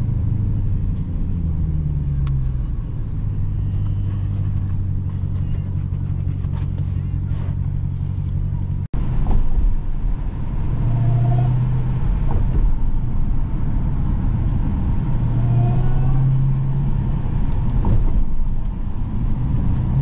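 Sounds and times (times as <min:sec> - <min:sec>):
car engine droning in cabin: 0:00.0 - 0:20.0.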